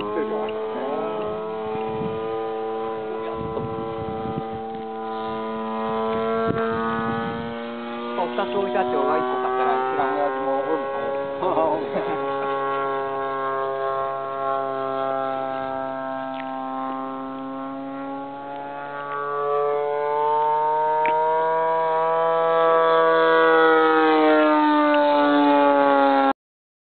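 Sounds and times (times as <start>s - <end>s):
model plane engine droning: 0.0s - 26.3s.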